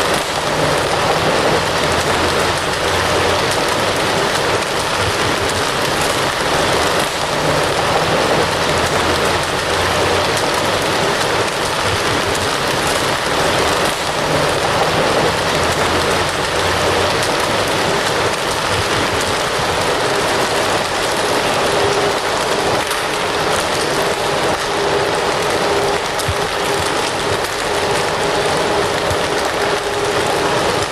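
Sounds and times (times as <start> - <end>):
fire crackling: 0.0 - 30.9.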